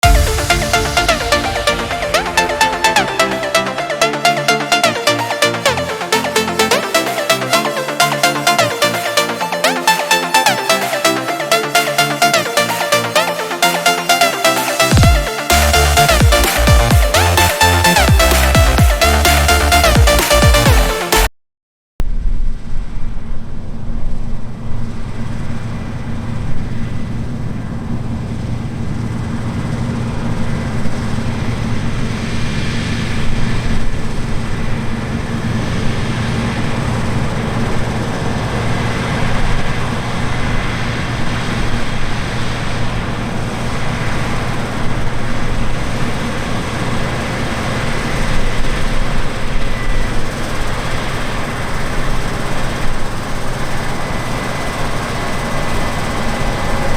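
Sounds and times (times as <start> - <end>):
diesel machinery engine drone: 0.0 - 20.6, 24.4 - 56.9.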